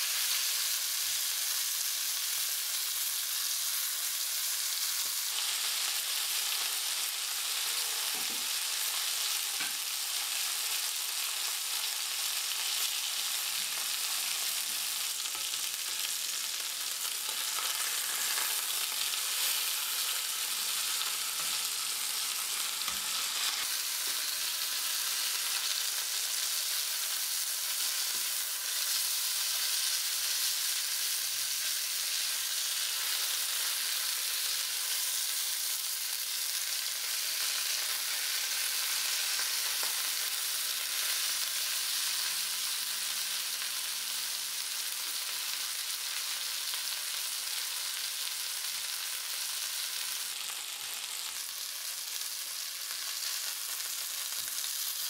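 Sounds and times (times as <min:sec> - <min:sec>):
chicken sizzling in skillet: 0:00.0 - 0:55.0.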